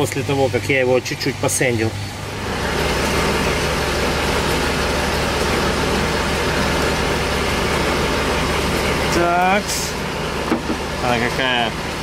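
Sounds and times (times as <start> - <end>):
machine hum with broad hiss: 0.0 - 12.0.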